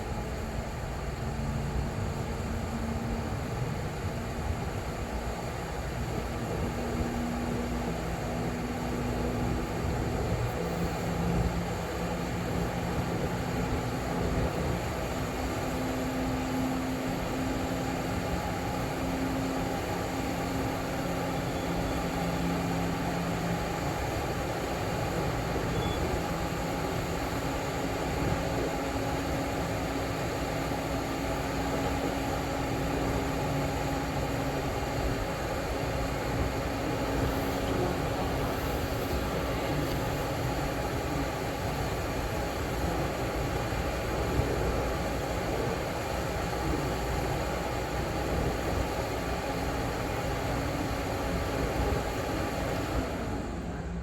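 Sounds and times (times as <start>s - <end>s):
hvac equipment rushing noise: 0.0s - 54.0s.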